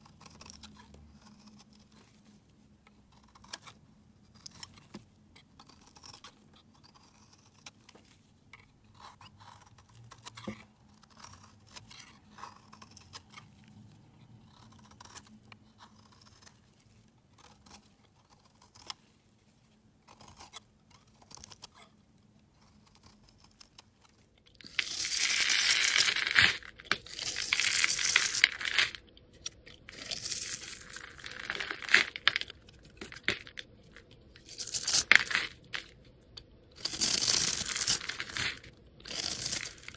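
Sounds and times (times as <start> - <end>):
crackly soap scraping and crumbling: 0.0 - 39.9
knife scraping soap: 0.0 - 39.9.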